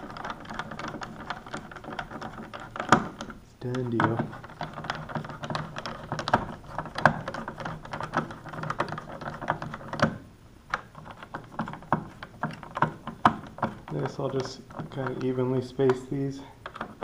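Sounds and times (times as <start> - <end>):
plastic and metal knocking: 0.0 - 17.0.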